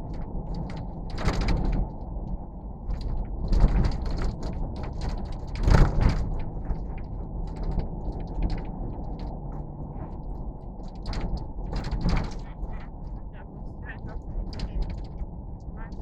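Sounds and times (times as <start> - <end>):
low rumble: 0.0 - 16.0
mechanical rattling and clicking: 2.9 - 16.0.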